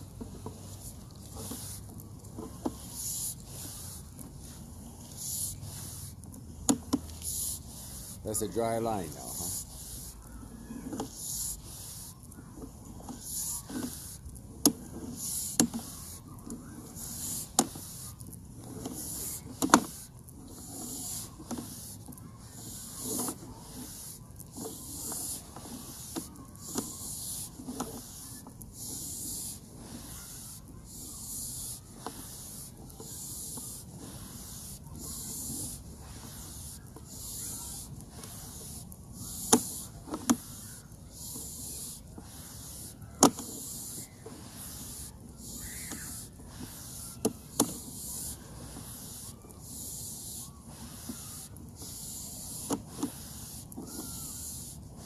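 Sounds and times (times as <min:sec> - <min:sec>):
cable rubbing with hiss: 0:00.0 - 0:55.0.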